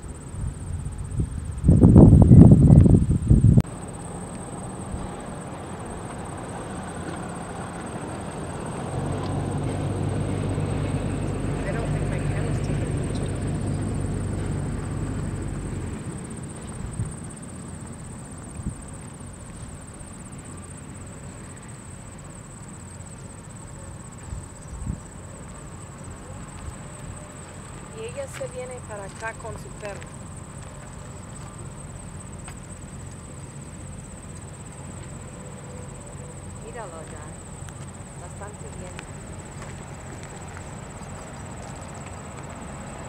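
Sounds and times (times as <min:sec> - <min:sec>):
insects trilling: 0:00.0 - 0:43.0
vehicle engine humming: 0:00.0 - 0:43.0.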